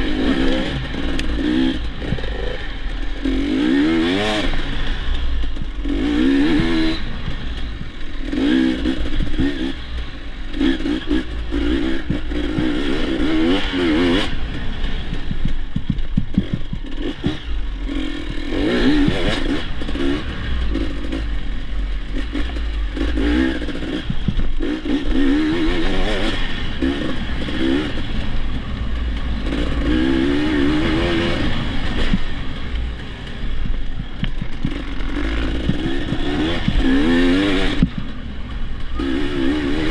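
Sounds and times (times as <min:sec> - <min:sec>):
bike rattling and knocking: 0:00.0 - 0:39.9
dirt bike engine revving: 0:00.0 - 0:39.9.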